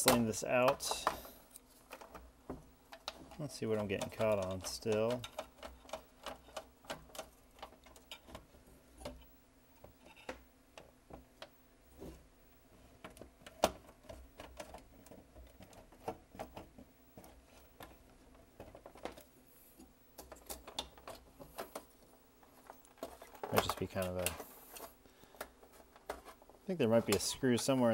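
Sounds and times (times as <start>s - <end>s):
plastic parts clicking and knocking: 0.0s - 12.2s, 12.9s - 27.9s.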